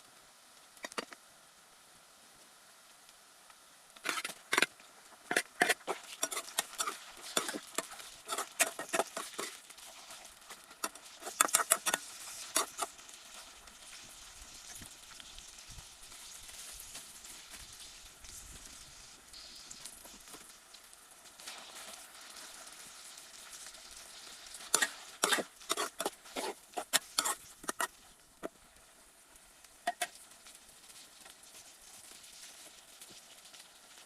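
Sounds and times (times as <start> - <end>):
steady soft hiss: 0.0 - 34.0.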